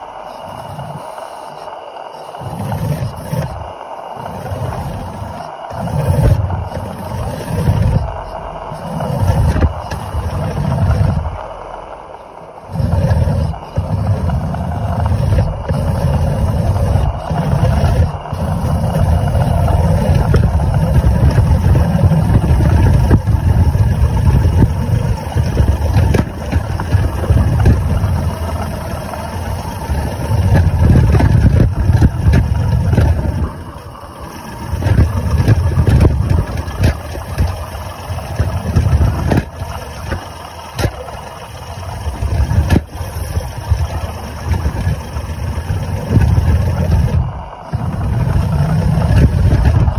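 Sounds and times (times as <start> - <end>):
steam wagon engine rumble: 0.0 - 49.9.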